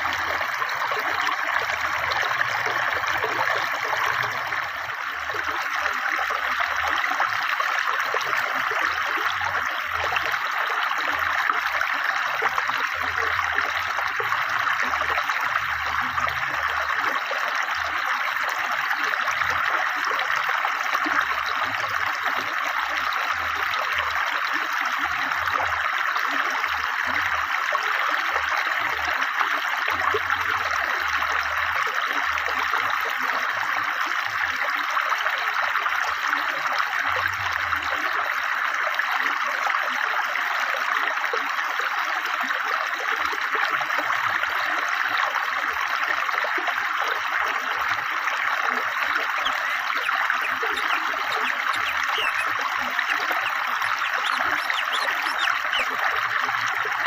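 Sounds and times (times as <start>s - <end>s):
river water flowing: 0.0s - 34.2s, 41.0s - 57.0s.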